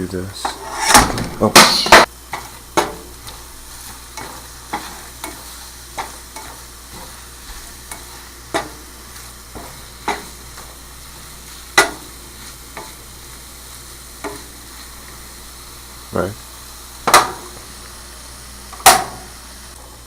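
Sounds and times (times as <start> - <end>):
eggs sizzling in a pan: 0.0 - 20.0.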